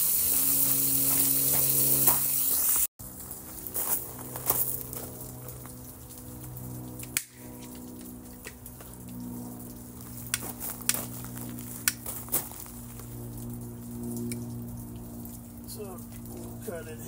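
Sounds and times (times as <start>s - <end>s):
electric pump motor humming: 0.0s - 17.0s.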